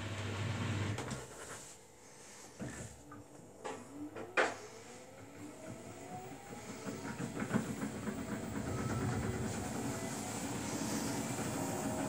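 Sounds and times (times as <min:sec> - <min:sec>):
washing machine motor whine: 0:00.0 - 0:01.3, 0:02.6 - 0:12.0.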